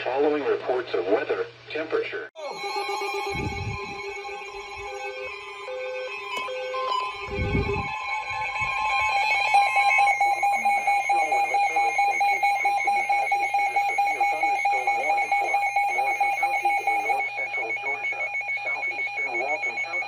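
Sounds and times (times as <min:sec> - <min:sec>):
high-pitched alarm tone: 0:02.4 - 0:20.0.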